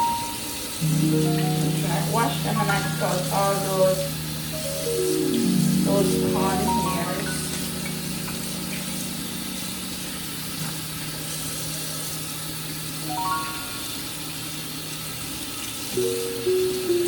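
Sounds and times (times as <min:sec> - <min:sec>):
soft background music: 0:00.0 - 0:11.7, 0:13.0 - 0:14.1, 0:16.0 - 0:17.0
water running from tap: 0:00.0 - 0:17.0.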